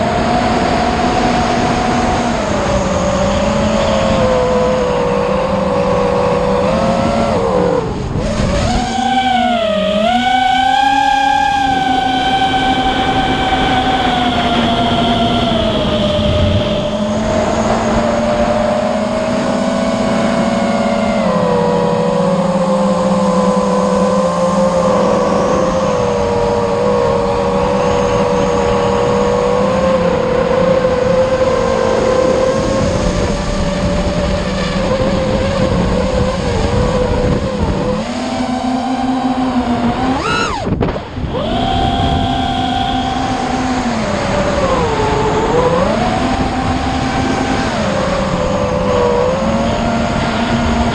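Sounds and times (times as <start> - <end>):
motor running: 0.0 - 50.9.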